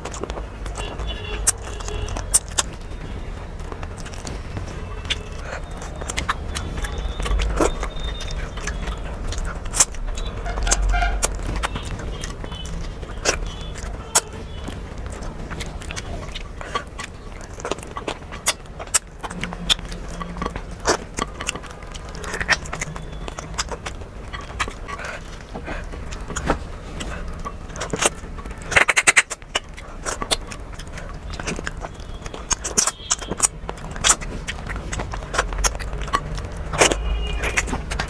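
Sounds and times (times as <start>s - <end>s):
lip smacks: 0.0s - 38.0s
sharp mouth clicks: 0.0s - 38.0s
wet chewing: 0.0s - 38.0s.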